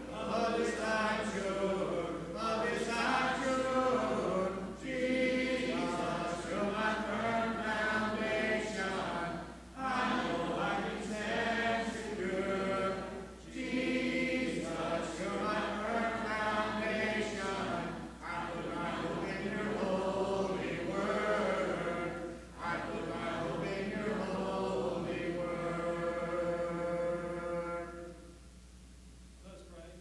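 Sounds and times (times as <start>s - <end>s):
congregation singing a hymn: 0.0s - 28.4s.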